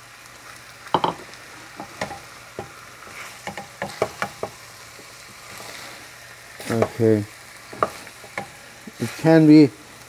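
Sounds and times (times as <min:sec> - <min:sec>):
faint sizzle: 0:00.0 - 0:10.0.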